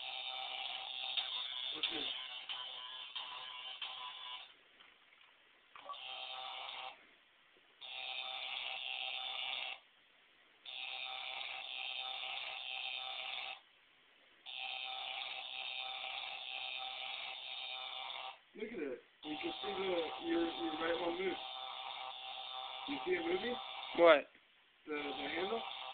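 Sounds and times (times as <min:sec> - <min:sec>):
electronic buzzing: 0:00.0 - 0:04.6, 0:05.8 - 0:07.0, 0:07.8 - 0:09.8, 0:10.6 - 0:13.6, 0:14.5 - 0:18.4, 0:19.2 - 0:24.2, 0:24.9 - 0:25.9.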